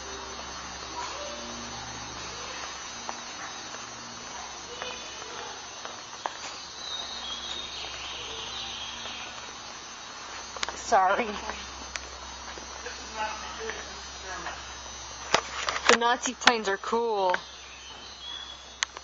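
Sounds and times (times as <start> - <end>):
hall hum and hiss: 0.0 - 19.0.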